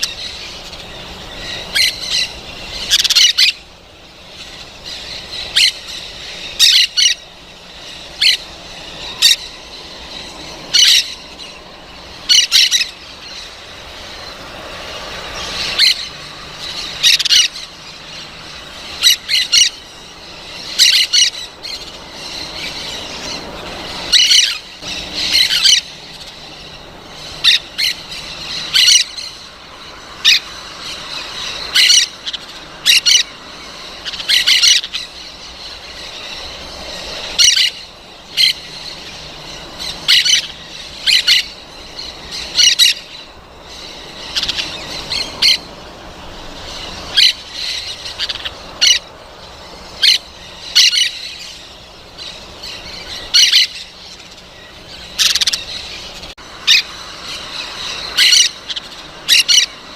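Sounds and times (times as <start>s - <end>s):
parrots squawking: 0.0s - 59.9s.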